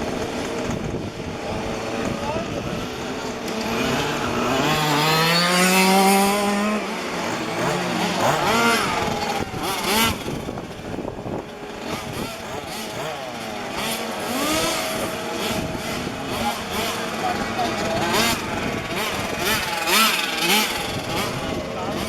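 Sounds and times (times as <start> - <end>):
small two-stroke engines revving: 0.0 - 22.0.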